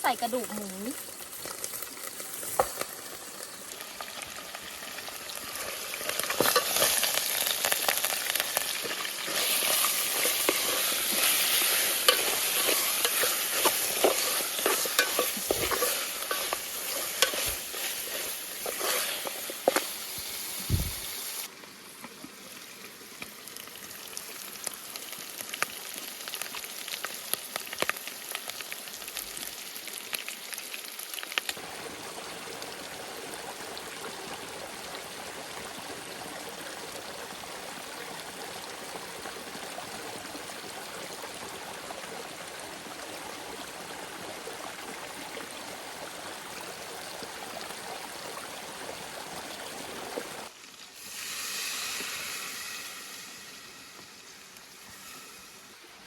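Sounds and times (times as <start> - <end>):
frying in hot oil sizzling: 0.0 - 21.5, 22.4 - 56.0.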